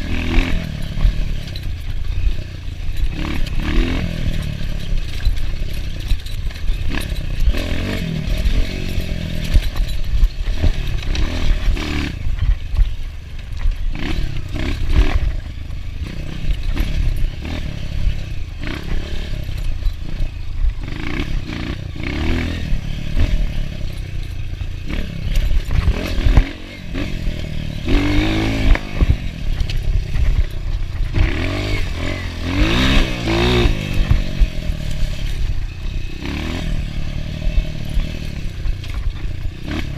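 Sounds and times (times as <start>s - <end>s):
dirt bike engine revving: 0.0s - 39.9s
knocks and rattles: 0.0s - 39.9s.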